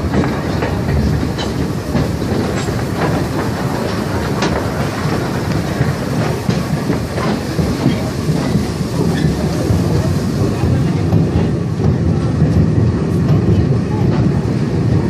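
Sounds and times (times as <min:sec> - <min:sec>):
train rumbling along track: 0:00.0 - 0:15.0
wheels clacking over rail joints: 0:00.0 - 0:15.0.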